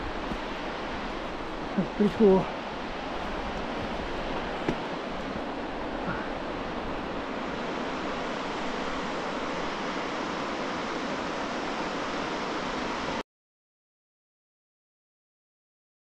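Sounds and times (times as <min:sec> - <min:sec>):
fast-flowing water rushing: 0:00.0 - 0:13.2.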